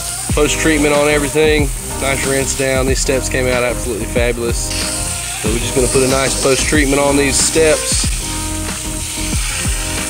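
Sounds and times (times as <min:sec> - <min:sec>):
pressure washer spray hissing: 0:00.0 - 0:10.0
synth music with bass drops: 0:00.3 - 0:10.0.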